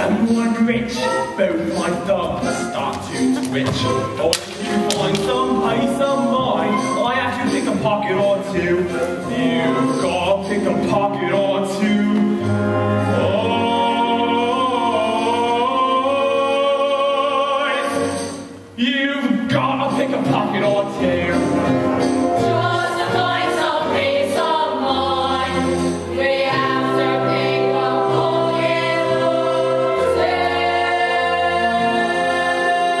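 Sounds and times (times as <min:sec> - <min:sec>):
voices singing: 0:00.0 - 0:18.2, 0:18.8 - 0:33.0
instrumental accompaniment: 0:00.0 - 0:18.8, 0:19.5 - 0:33.0.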